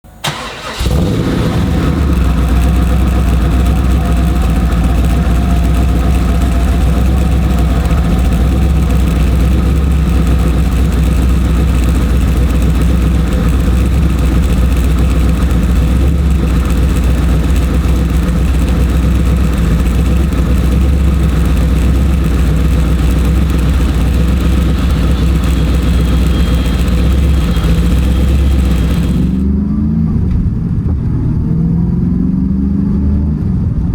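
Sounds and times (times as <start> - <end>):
car engine idling: 0.1 - 29.5.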